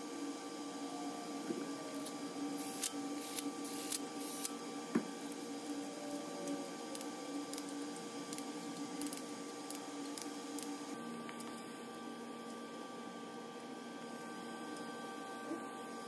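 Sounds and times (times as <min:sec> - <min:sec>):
shop hum: 0:00.0 - 0:16.0.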